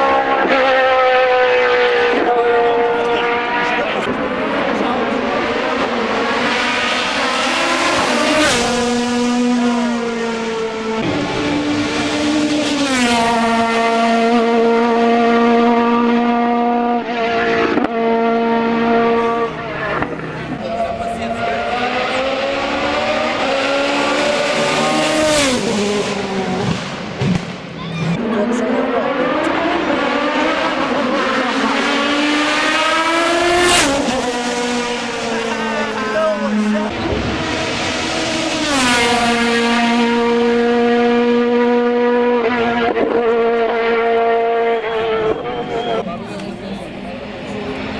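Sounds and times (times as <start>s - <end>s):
racing car engine high revs: 0.0s - 47.9s.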